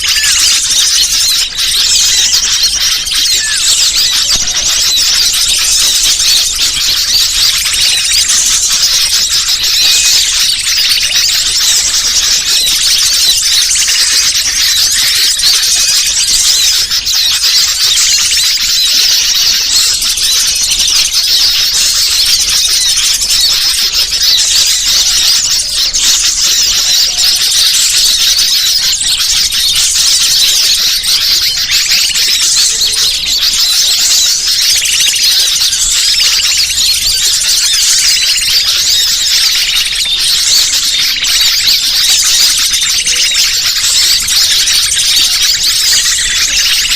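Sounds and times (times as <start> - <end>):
small birds chirping and twittering: 0.0 - 46.9.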